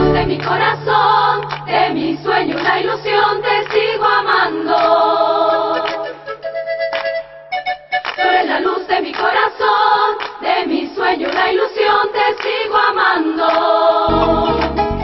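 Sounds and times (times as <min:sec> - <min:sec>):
choir singing: 0:00.0 - 0:06.5, 0:08.2 - 0:15.0.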